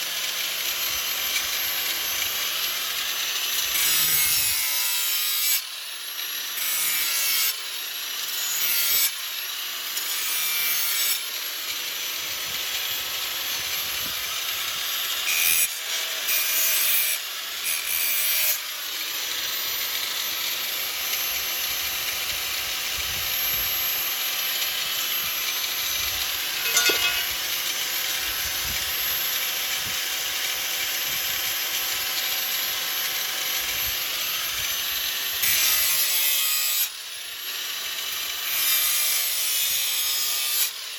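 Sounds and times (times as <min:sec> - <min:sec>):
angle grinder grinding steel: 0:00.0 - 0:40.9.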